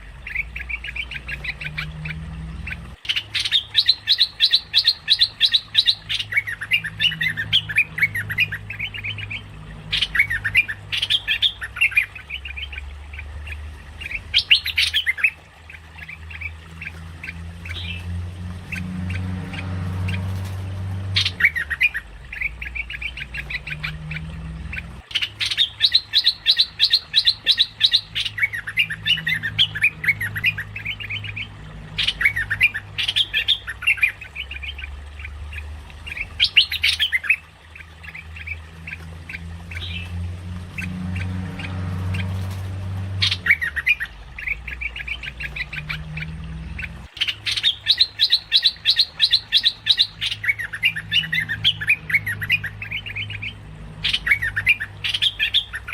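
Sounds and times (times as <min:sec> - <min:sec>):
bulbul chattering calls: 0:00.0 - 0:18.0, 0:18.7 - 0:40.1, 0:43.2 - 0:55.9
low steady hum: 0:00.0 - 0:55.9.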